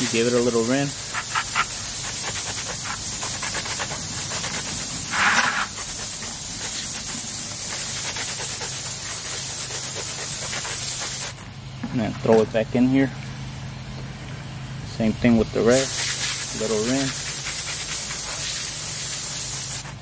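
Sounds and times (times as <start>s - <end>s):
garden hose spraying water: 0.0s - 11.5s, 14.4s - 20.0s.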